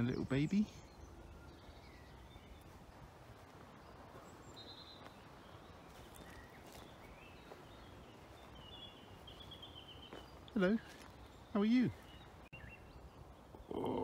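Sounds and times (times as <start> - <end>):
distant small birds chirping: 0.0 - 14.0.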